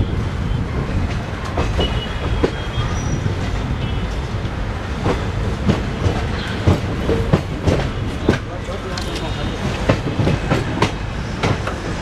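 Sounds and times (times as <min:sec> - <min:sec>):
train rumbling: 0:00.0 - 0:12.0
train wheels clicking over joints: 0:01.0 - 0:12.0.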